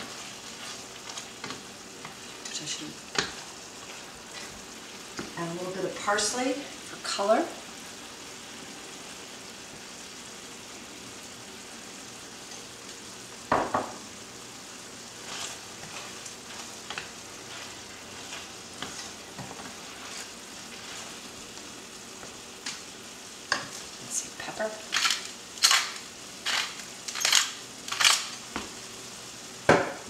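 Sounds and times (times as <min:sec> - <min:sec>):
stew sizzling in pan: 0:00.0 - 0:30.0.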